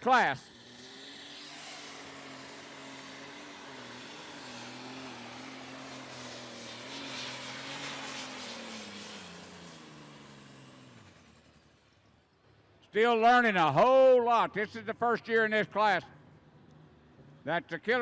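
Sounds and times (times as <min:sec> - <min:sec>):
high turbo whine: 0:00.0 - 0:18.0
tractor engine running hard: 0:00.0 - 0:18.0.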